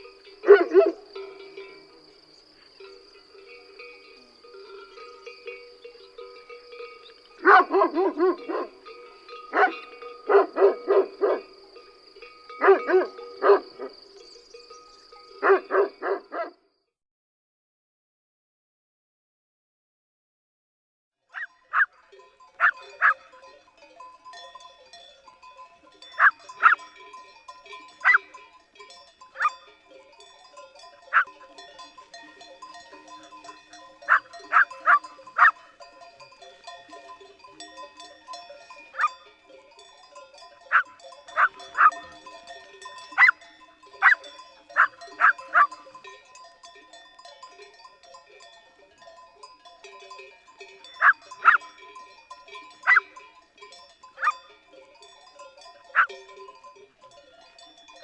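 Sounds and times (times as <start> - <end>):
farm animal calls: 0.0 - 16.5, 21.3 - 24.4, 25.7 - 58.0
tinkling bells: 0.0 - 16.5, 21.4 - 58.0.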